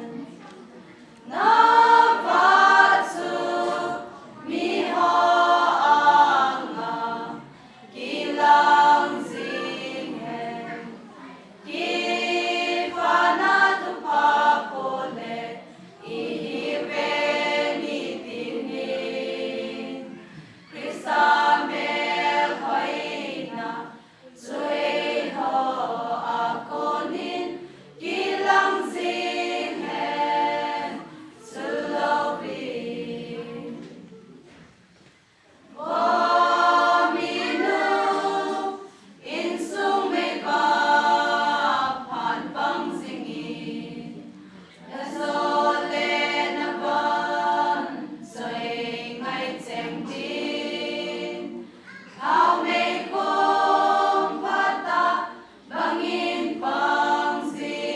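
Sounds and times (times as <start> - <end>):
women's choir singing: 0.0 - 57.9.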